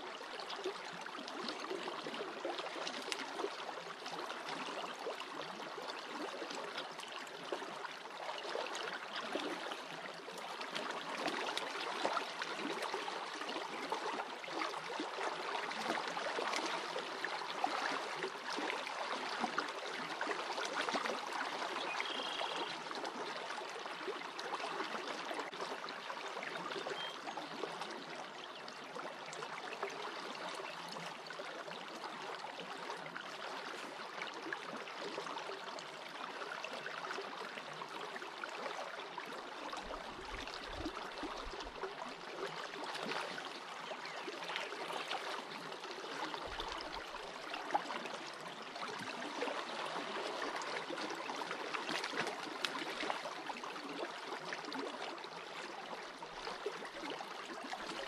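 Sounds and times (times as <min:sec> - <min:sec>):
creek water over stones: 0:00.0 - 0:58.0.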